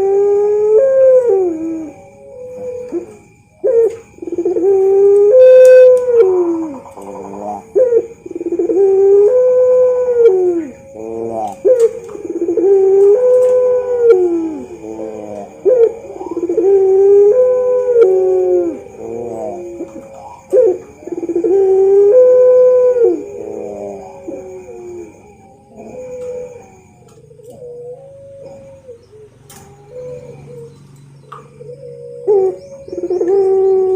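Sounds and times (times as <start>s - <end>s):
turtle dove cooing: 0.0s - 33.9s.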